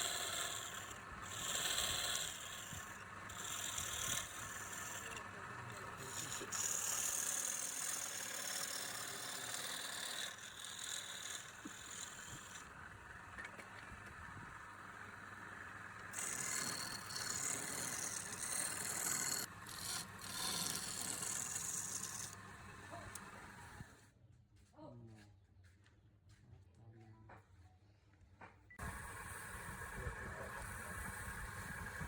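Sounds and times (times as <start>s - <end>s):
rasping scrape on spinning wood: 0.0s - 23.9s, 28.8s - 32.0s
wood lathe humming: 0.0s - 23.9s, 28.8s - 32.0s.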